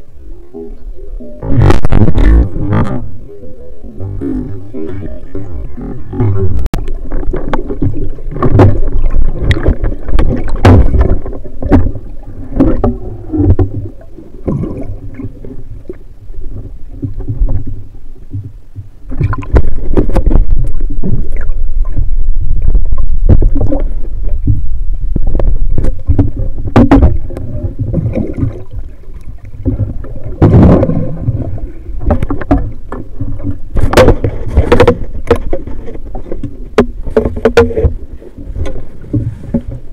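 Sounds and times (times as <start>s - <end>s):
underwater rumbling and gurgling: 0.0s - 39.9s.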